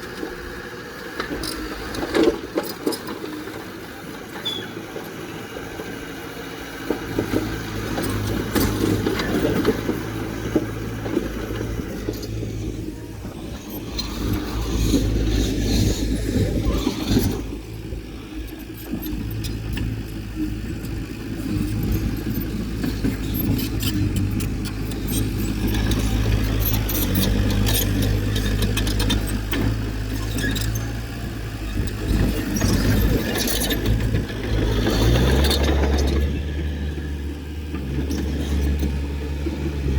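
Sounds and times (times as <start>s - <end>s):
heavy machine diesel engine: 0.0s - 39.9s.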